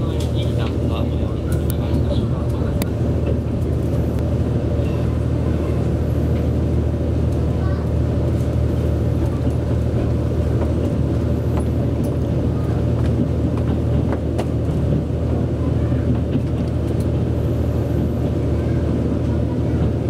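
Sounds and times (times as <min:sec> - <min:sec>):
diesel railcar rumble: 0:00.0 - 0:20.0.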